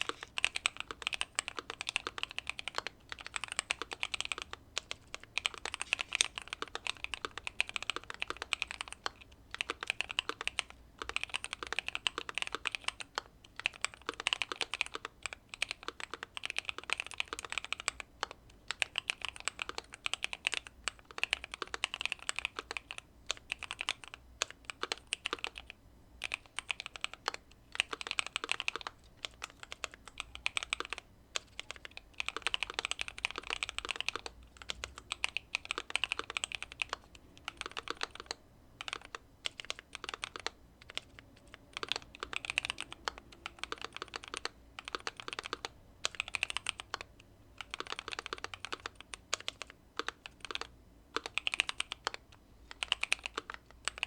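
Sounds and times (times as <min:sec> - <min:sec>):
typing on mechanical keyboard: 0:00.0 - 0:54.0.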